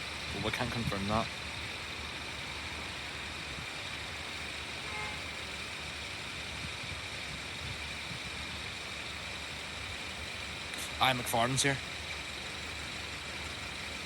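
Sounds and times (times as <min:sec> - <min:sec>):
outdoor background hiss: 0:00.0 - 0:14.0
vehicle engine humming: 0:00.0 - 0:14.0.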